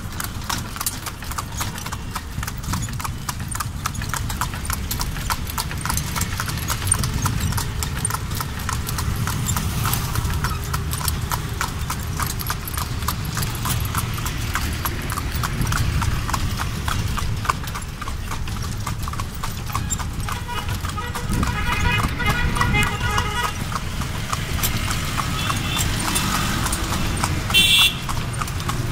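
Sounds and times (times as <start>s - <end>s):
horse hooves on paved road: 0.0s - 28.9s.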